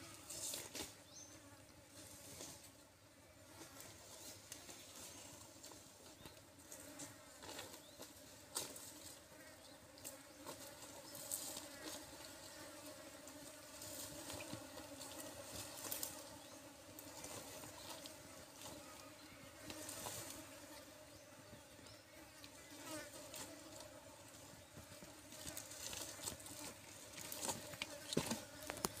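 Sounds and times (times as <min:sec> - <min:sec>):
flies buzzing: 0:00.0 - 0:29.0.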